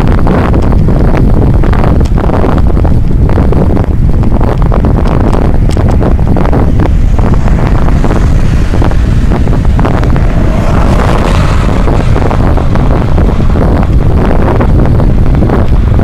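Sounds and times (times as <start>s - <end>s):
hissing rush: 0.0s - 16.0s
wind rumble on microphone: 0.0s - 16.0s.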